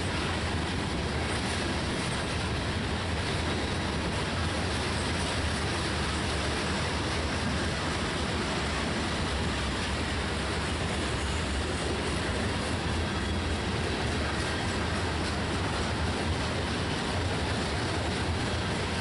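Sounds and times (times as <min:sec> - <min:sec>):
freight train rumbling past: 0:00.0 - 0:19.0
wheels rattling on rails: 0:00.0 - 0:19.0.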